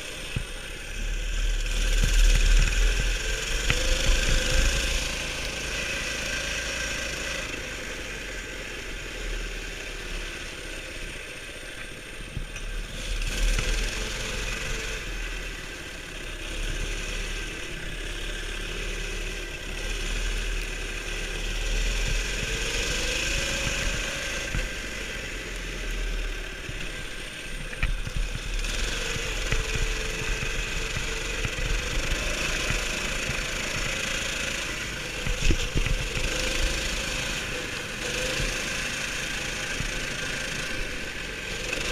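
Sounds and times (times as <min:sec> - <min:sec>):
mini bike engine revving: 0:00.0 - 0:41.9.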